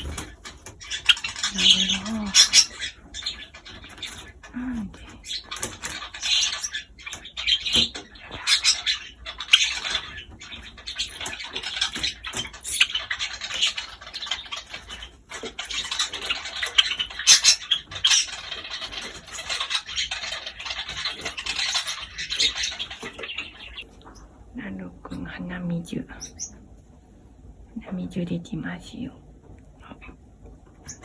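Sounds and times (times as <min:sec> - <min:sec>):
birds rustling: 0:00.0 - 0:31.0
small birds chirping: 0:00.0 - 0:31.0.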